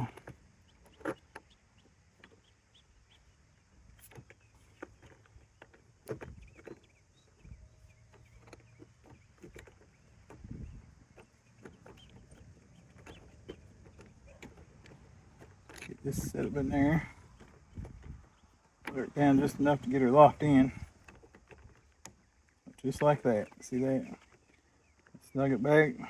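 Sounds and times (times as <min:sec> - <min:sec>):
faint clicks and light knocks: 0:04.0 - 0:25.4.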